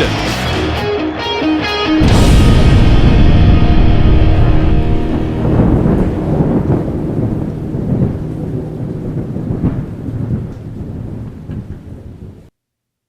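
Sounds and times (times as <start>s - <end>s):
low rumbling noise: 2.0s - 12.5s.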